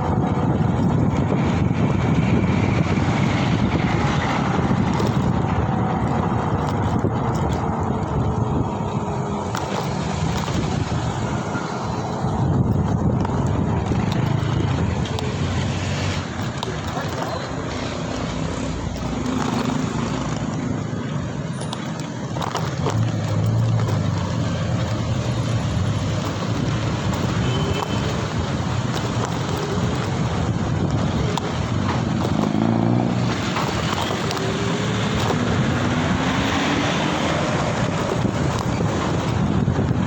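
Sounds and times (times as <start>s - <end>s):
engine and tyre rumble: 0.0s - 40.0s
wind on microphone: 0.0s - 40.0s.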